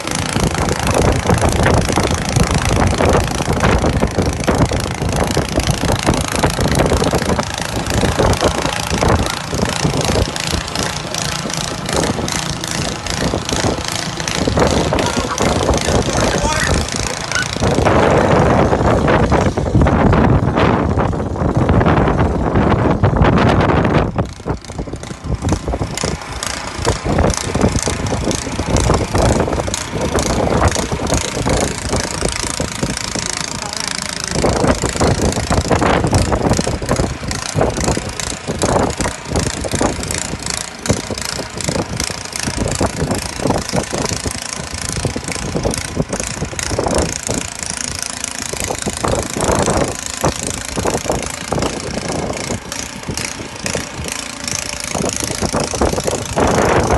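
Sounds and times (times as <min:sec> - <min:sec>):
irregular clatter: 0:00.0 - 0:56.9
snow blower engine running: 0:00.0 - 0:56.9.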